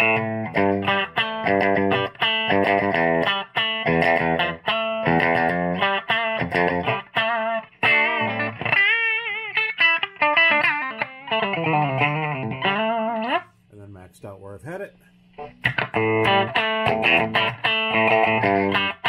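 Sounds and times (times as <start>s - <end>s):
electric guitar chord stabs: 0.0s - 13.4s, 15.4s - 19.0s
electric guitar lead notes: 0.0s - 13.4s, 15.4s - 19.0s.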